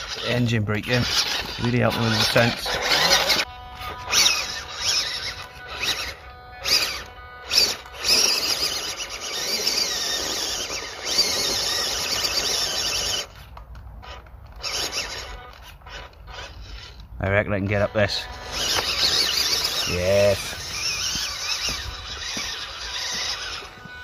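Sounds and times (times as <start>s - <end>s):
electric motor whining: 0.0s - 13.4s, 14.0s - 24.0s.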